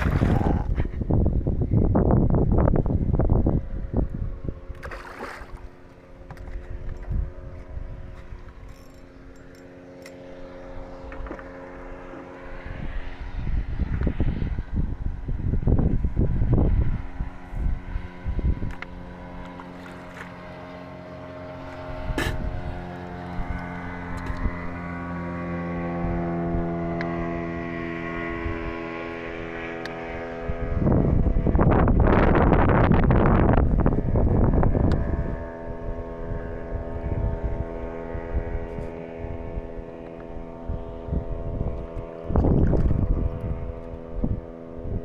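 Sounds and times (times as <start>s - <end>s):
wind buffeting microphone: 0.0s - 45.0s
boat engine humming: 2.3s - 13.4s, 16.0s - 45.0s.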